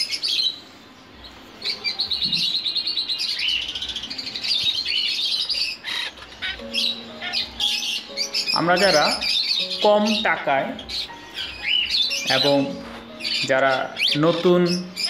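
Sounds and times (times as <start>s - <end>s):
parrots chattering: 1.6s - 15.0s.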